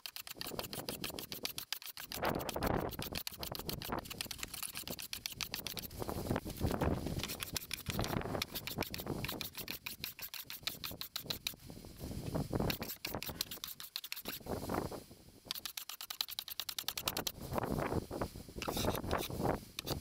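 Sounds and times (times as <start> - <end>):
scraper rasping across wood: 0.0 - 11.6, 12.5 - 14.5, 15.5 - 17.7, 18.6 - 20.0.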